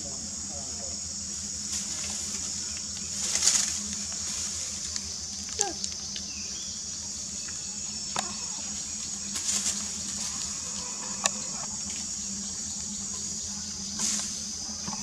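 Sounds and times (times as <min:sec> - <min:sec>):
high-pitched insect buzzing: 0:00.0 - 0:15.0.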